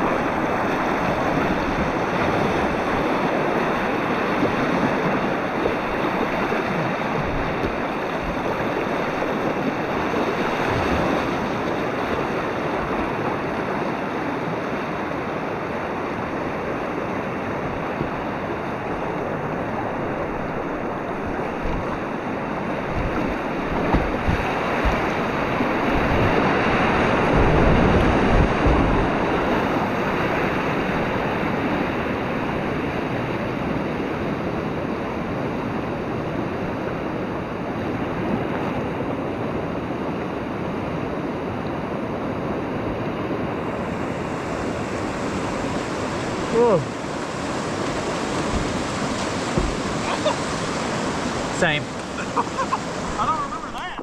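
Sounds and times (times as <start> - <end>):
river rapids rushing: 0.0 - 33.6, 43.1 - 54.0.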